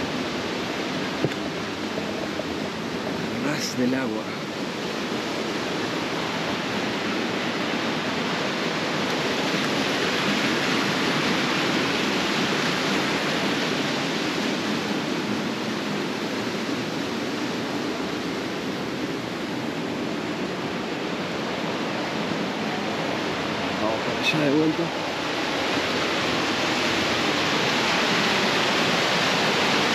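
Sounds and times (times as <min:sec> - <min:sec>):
water rushing over rocks: 0:00.0 - 0:29.9.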